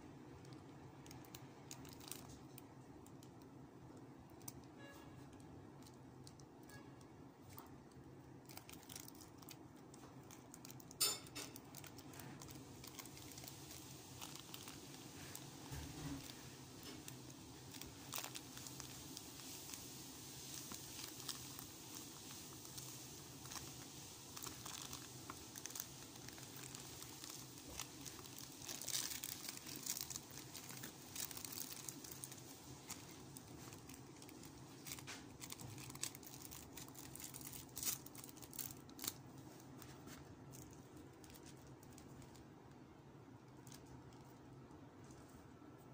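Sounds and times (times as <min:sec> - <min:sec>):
plastic packaging crinkling: 0:00.4 - 0:04.8, 0:07.4 - 0:45.5.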